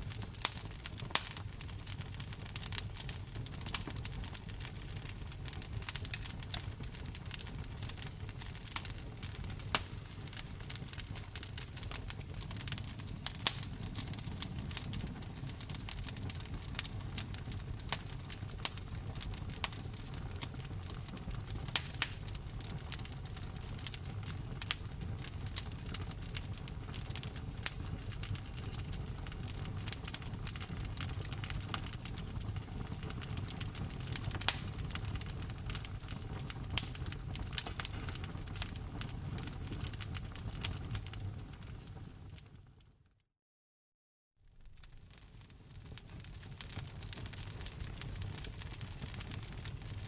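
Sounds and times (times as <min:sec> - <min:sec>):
low rumble of burning: 0:00.0 - 0:42.9, 0:44.5 - 0:50.0
wood fire crackling and popping: 0:00.0 - 0:42.9, 0:44.5 - 0:50.0.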